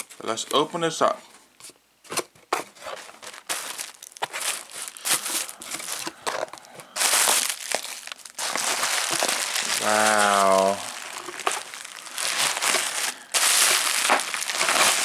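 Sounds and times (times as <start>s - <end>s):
packing material crinkling: 2.1s - 15.0s.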